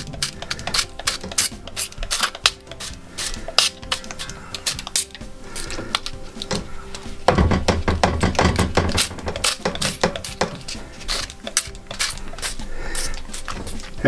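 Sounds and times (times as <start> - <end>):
spray bottle squirting: 0.0 - 14.0.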